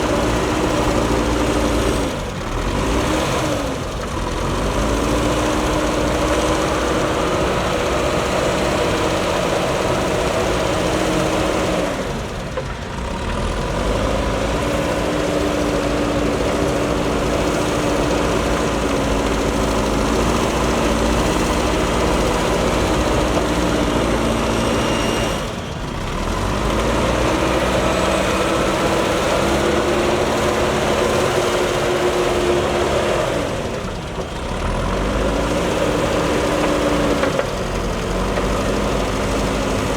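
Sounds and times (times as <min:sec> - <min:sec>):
backhoe diesel engine working: 0:00.0 - 0:39.9.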